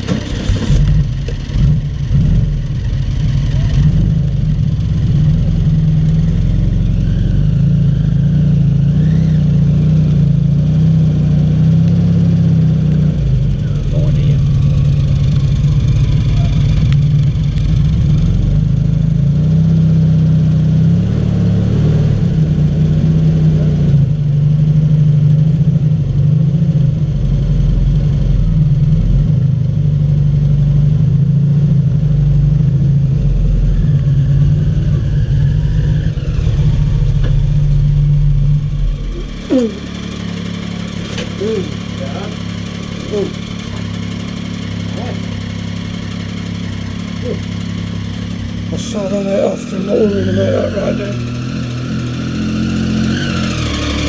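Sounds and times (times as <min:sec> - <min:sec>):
trike engine running: 0:00.0 - 0:20.7, 0:21.4 - 0:54.0.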